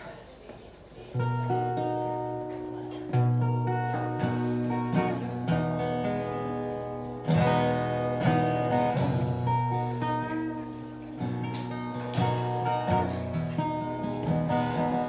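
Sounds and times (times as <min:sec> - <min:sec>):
acoustic guitar strumming chords: 0:01.2 - 0:15.0.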